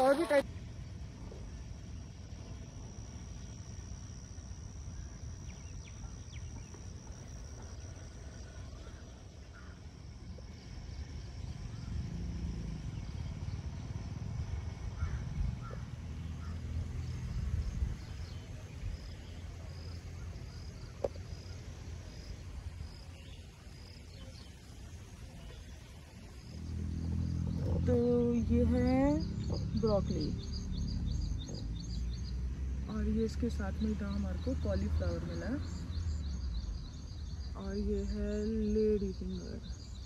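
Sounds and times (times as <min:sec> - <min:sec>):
faint insects: 0:00.0 - 0:40.0.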